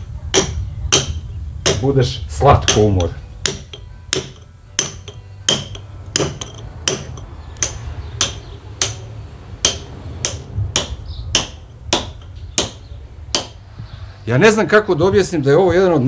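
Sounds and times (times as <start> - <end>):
hammer striking chisel on stone: 0.0 - 13.6.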